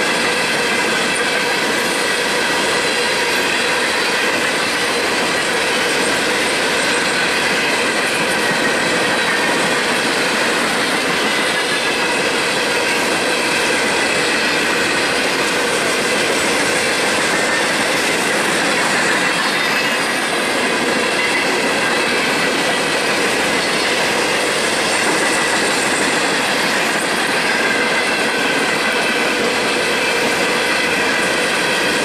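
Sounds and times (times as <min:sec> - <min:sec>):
train wheels rolling on rails: 0:00.0 - 0:32.0.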